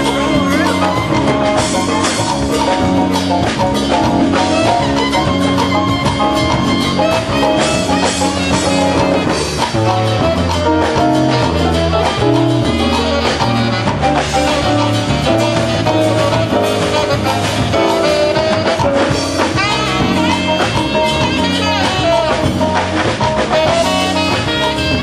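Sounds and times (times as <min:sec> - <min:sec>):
congas: 0:00.0 - 0:25.0
drum kit: 0:00.0 - 0:25.0
piano: 0:00.0 - 0:25.0
stepping bass line: 0:00.0 - 0:25.0.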